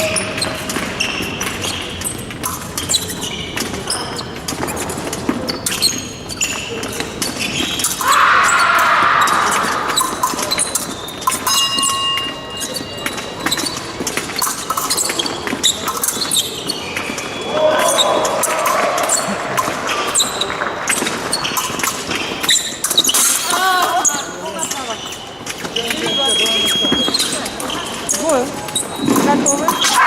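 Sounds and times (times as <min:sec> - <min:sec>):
shoes squeaking and stamping: 0:00.0 - 0:30.0.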